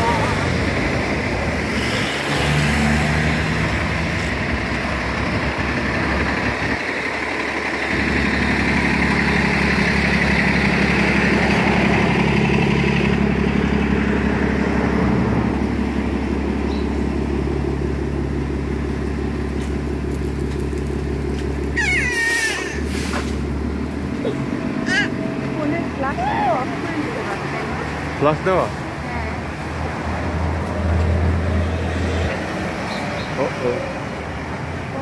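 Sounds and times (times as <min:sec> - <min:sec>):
engine running close by: 0:00.0 - 0:35.0
street traffic noise: 0:00.0 - 0:35.0.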